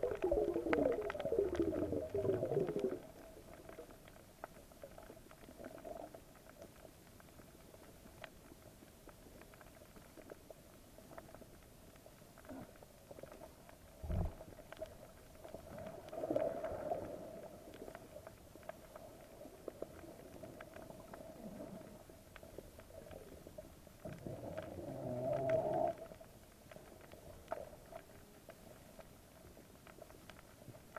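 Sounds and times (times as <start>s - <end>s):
crackling clicks: 0.0s - 30.9s
faint underwater hum: 0.0s - 30.9s
water gurgling: 0.0s - 30.9s.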